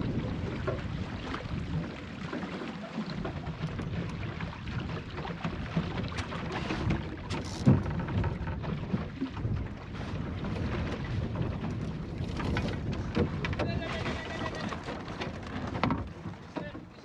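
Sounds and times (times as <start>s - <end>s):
wind buffeting the microphone: 0.0s - 2.3s, 3.0s - 16.4s
water lapping against a hull: 0.0s - 17.0s.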